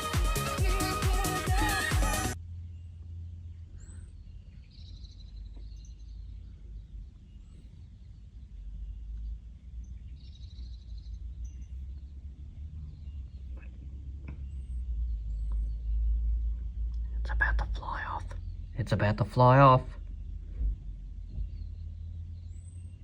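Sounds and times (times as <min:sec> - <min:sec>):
songbirds chirping: 0:00.0 - 0:23.0
steady low rumble: 0:02.3 - 0:23.0.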